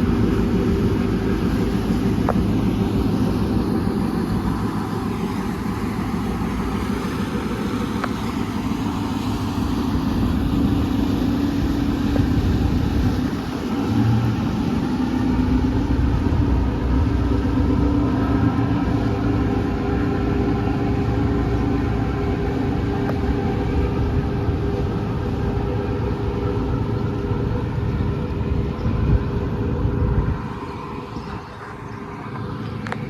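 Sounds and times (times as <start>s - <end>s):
boat diesel engine droning: 0.0s - 33.0s.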